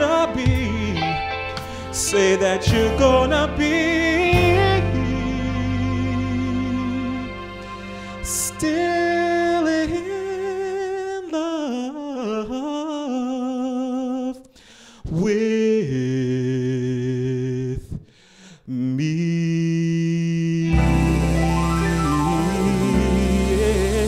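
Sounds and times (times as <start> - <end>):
man singing unaccompanied: 0.0 - 7.4, 8.2 - 14.5, 15.1 - 17.9, 18.7 - 24.0.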